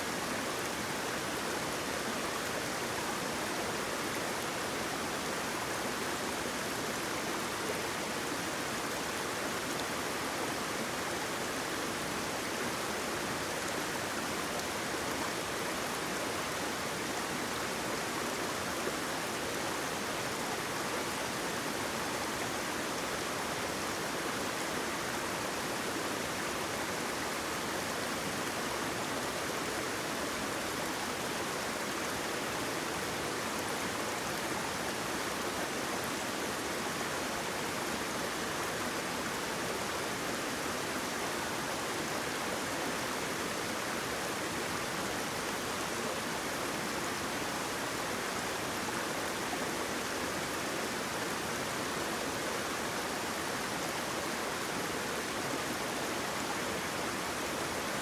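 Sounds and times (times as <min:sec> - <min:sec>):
flowing water rushing: 0:00.1 - 0:58.0.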